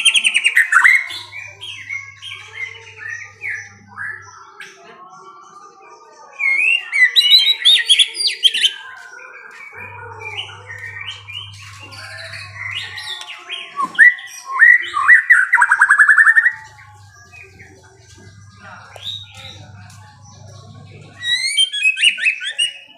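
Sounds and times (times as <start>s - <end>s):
songbird chirping and trilling: 0.0s - 22.9s.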